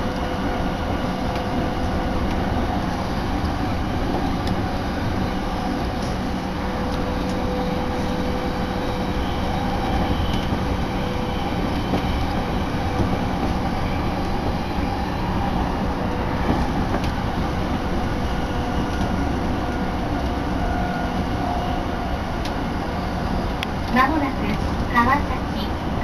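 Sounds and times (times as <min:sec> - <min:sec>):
train rumbling inside carriage: 0:00.0 - 0:26.0.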